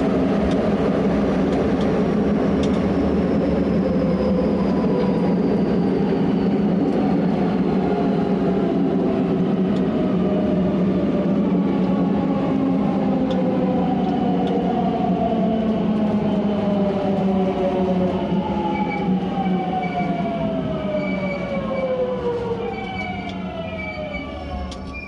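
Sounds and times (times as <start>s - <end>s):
wheels rumbling on track: 0.0s - 25.0s.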